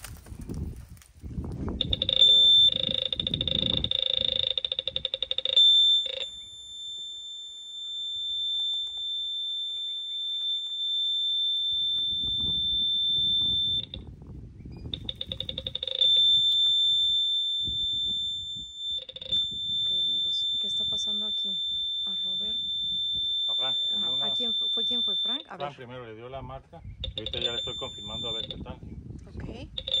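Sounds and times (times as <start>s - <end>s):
metal detector tone: 1.8s - 14.1s, 14.8s - 25.8s, 27.0s - 28.7s, 29.8s - 30.0s.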